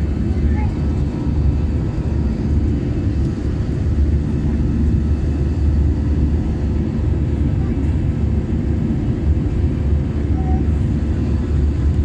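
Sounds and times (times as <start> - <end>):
airplane engine drone: 0.0 - 12.0.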